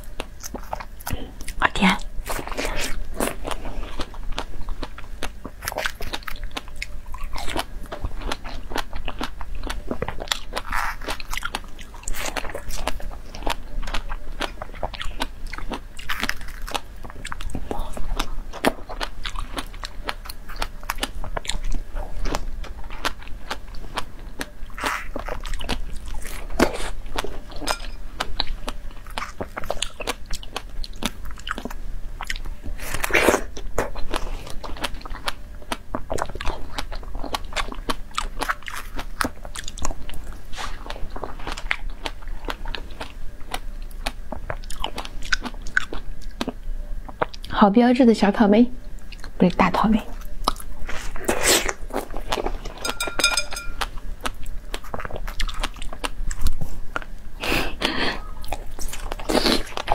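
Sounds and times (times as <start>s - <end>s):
biting and chewing strawberries: 0.0s - 47.6s, 50.0s - 59.9s.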